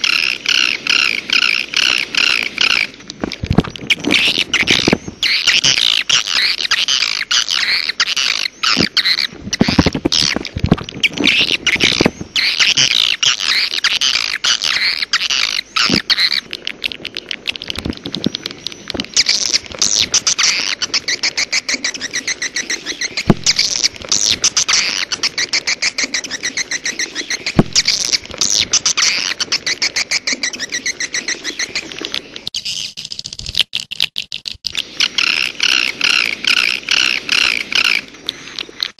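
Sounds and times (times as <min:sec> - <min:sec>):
swiftlets chattering and twittering: 0:00.0 - 0:33.4, 0:34.7 - 0:38.9.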